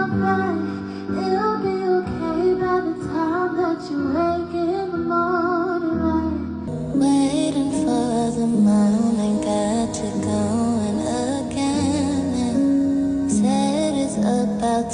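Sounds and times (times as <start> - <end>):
instrumental backing music: 0.0 - 14.9
woman singing: 0.0 - 14.9.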